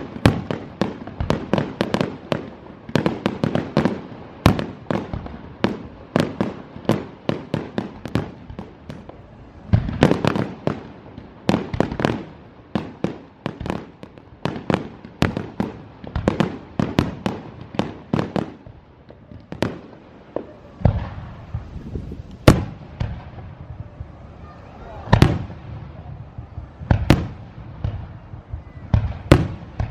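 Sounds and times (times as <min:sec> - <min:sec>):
fireworks bursting: 0:00.0 - 0:29.9.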